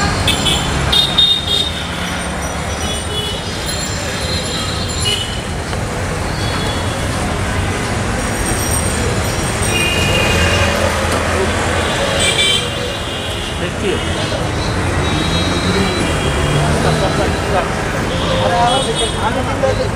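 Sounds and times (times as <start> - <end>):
passing vehicles: 0.0 - 19.9.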